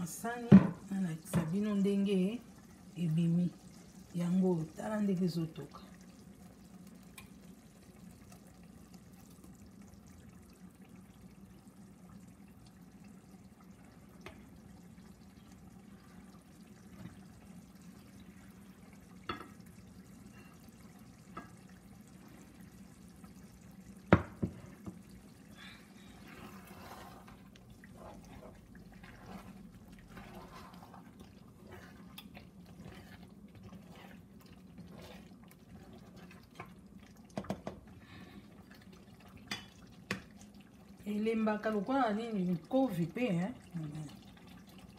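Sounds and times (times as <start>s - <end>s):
thick sauce simmering and bubbling: 0.0s - 44.9s.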